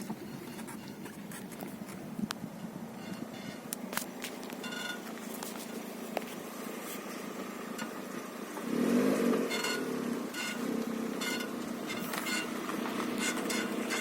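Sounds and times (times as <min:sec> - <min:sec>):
car running hum: 0:00.0 - 0:14.0
suspension creaking and squeaking: 0:00.0 - 0:14.0.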